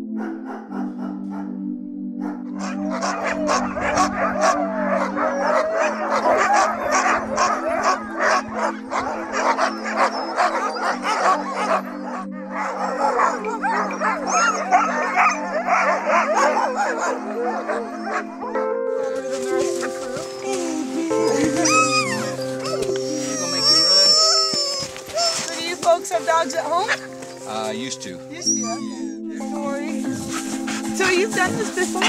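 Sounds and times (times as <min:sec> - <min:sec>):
dogs barking and yelping: 0:00.0 - 0:01.6, 0:02.2 - 0:27.5, 0:28.2 - 0:32.0
low held music chords: 0:00.0 - 0:32.0.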